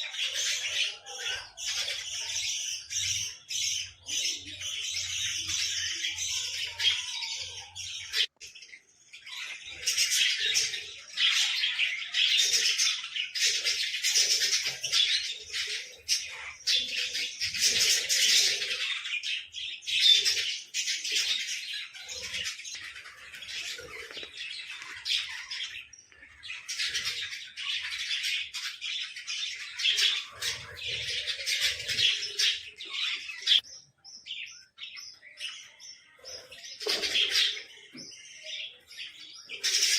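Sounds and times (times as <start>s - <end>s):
small birds chattering and squawking: 0.0s - 39.9s.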